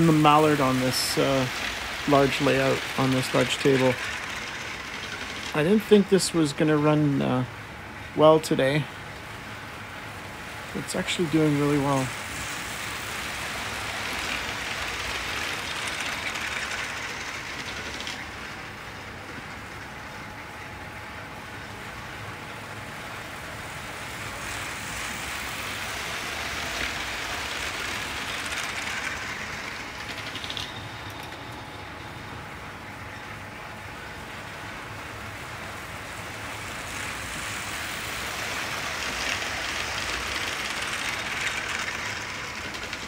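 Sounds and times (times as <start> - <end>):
steam hiss: 0.0 - 7.6, 9.8 - 19.3, 23.0 - 32.0, 34.4 - 43.0
wheels rumbling on rails: 0.0 - 43.0.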